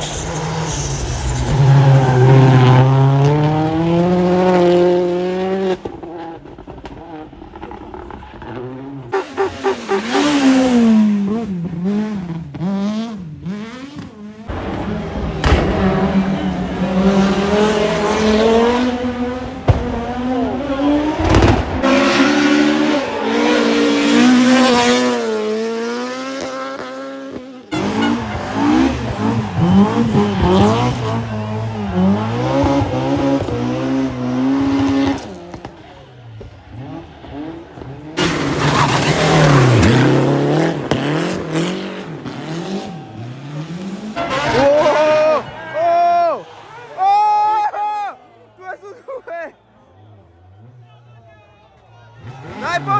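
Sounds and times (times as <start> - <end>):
rally car engines revving: 0.0 - 52.9.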